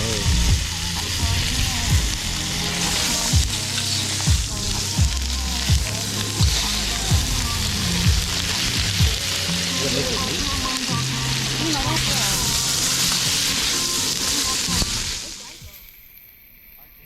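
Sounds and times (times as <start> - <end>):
background music with beat: 0.0 - 15.4
food sizzling in hot oil: 0.0 - 16.3.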